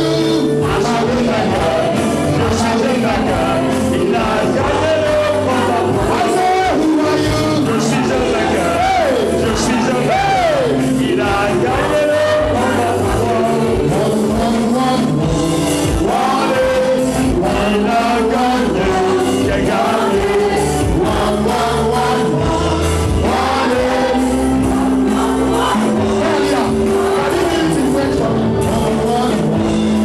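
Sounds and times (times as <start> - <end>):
band with bass and drums: 0.0 - 30.0
congregation singing: 0.0 - 30.0.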